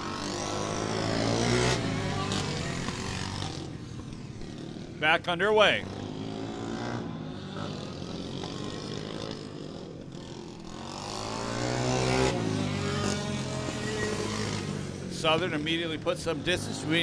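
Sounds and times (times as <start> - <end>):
go-kart engines racing: 0.0 - 17.0.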